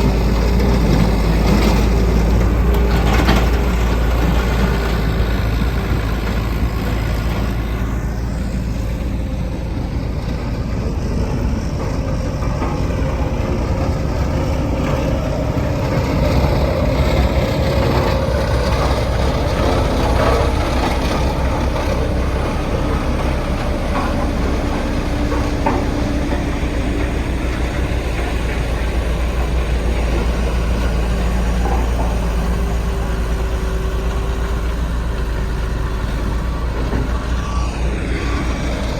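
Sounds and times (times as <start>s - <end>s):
diesel engines droning: 0.0s - 38.9s.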